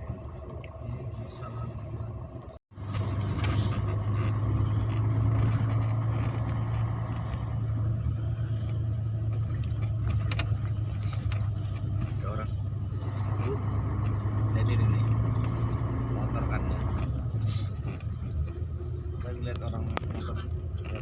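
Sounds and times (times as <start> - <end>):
vehicle road and wind noise: 0.0 - 21.0.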